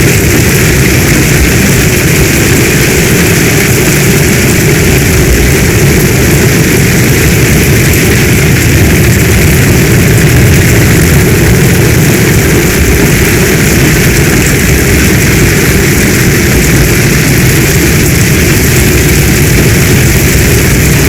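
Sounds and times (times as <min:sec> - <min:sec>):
deep rumble: 0:00.0 - 0:21.0
heavy rain: 0:00.0 - 0:21.0.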